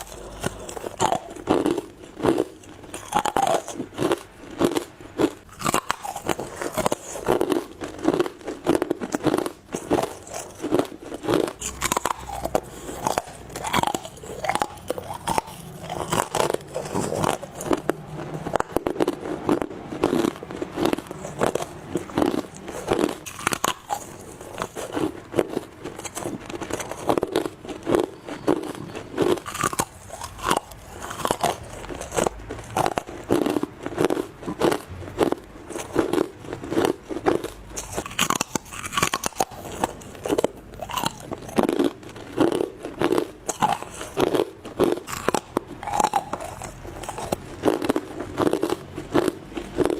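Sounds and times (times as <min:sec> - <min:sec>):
teeth crunching ice: 0:00.0 - 0:49.9.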